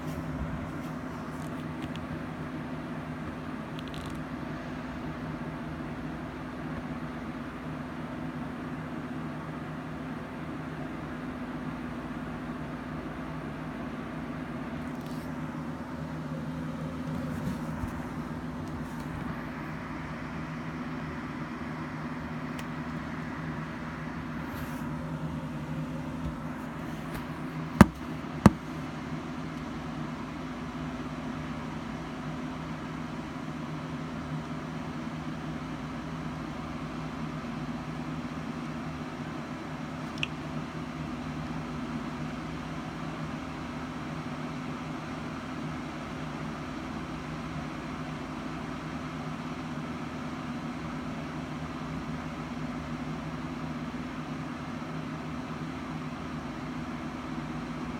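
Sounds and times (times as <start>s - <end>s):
low mechanical hum: 0.0s - 57.9s.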